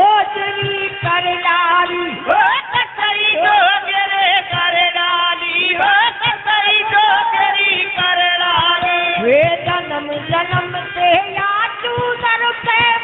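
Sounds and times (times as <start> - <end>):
man singing: 0.0 - 11.4
harmonium notes: 0.0 - 13.0.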